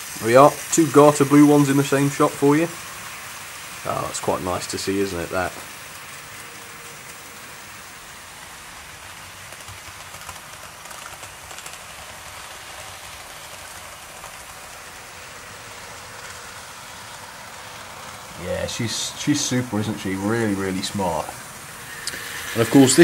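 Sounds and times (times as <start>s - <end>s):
model train wheels rumbling: 0.0s - 23.0s.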